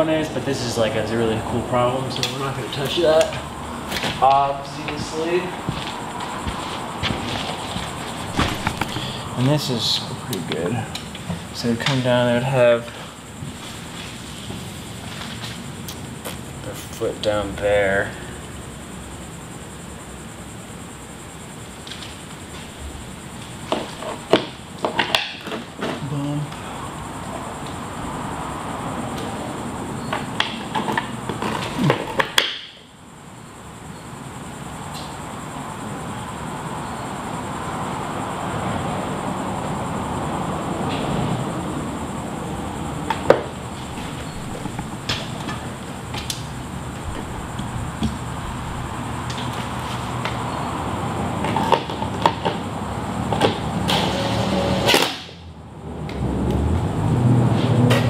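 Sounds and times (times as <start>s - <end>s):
fans humming: 0.0s - 58.0s.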